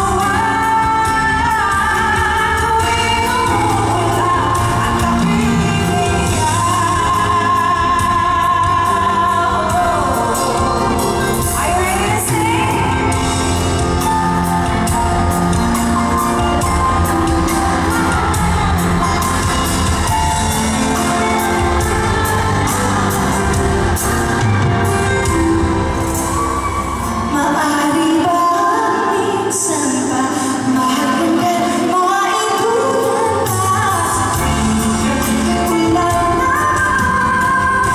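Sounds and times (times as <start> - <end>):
band playing: 0.0 - 37.9
woman singing pop ballad: 0.0 - 37.9.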